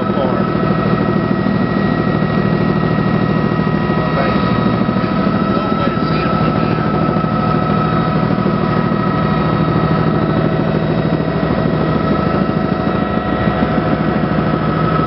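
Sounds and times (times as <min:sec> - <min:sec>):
helicopter engine and rotors drone: 0:00.0 - 0:15.0
high whine: 0:00.0 - 0:15.0.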